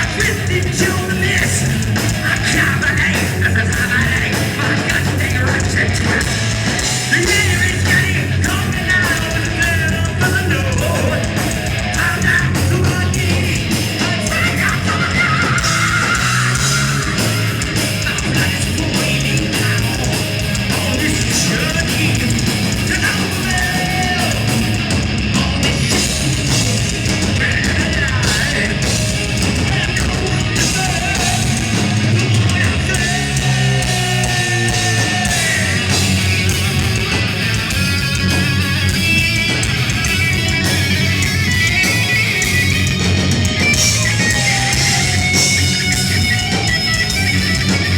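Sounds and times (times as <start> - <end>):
bass guitar: 0.0 - 47.9
distorted electric guitars: 0.0 - 47.9
heavy metal band playing live: 0.0 - 47.9
pounding drums: 0.0 - 47.9
lead guitar melody: 5.7 - 47.9.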